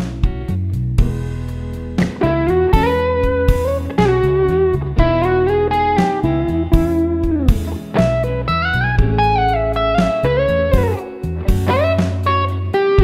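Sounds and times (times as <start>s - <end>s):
bass line: 0.0s - 13.0s
steady beat: 0.0s - 13.0s
electric guitar blues-rock lick: 2.0s - 13.0s.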